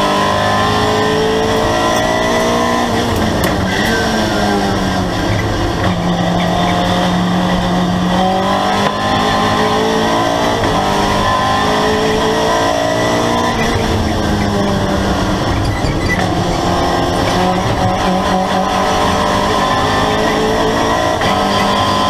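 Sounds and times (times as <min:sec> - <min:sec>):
race car engine: 0:00.0 - 0:22.0.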